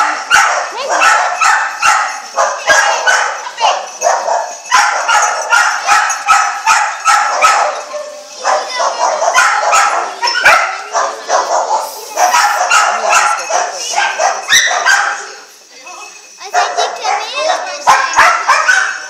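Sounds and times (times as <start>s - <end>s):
dog barking: 0.0s - 15.4s, 16.5s - 19.0s.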